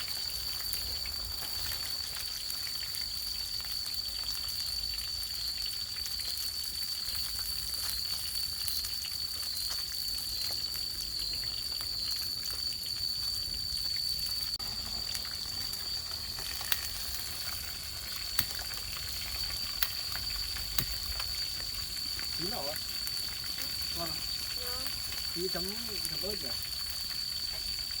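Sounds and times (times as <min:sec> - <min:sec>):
fish sizzling in a pan: 0:00.0 - 0:28.0.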